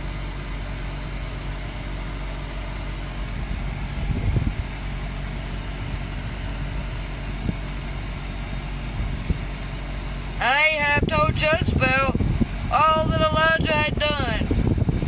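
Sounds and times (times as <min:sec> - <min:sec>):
motor rumbling and hissing: 0:00.0 - 0:15.0.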